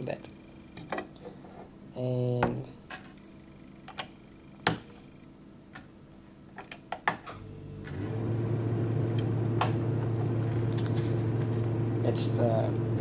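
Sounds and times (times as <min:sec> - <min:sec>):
vending machine humming: 0:00.0 - 0:13.0.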